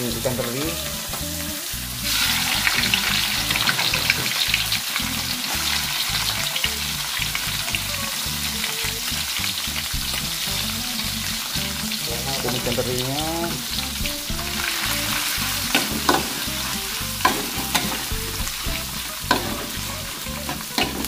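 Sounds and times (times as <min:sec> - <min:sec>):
oil crackling and sizzling in a wok: 0:00.0 - 0:21.0.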